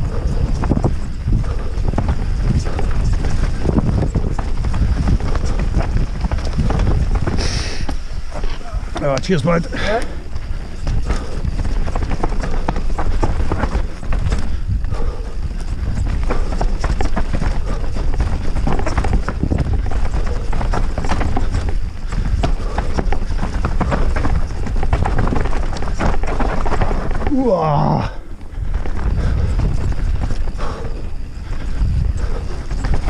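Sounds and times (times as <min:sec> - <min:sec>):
bike rattling over rough trail: 0:00.0 - 0:33.0
wind rumble on microphone: 0:00.0 - 0:33.0.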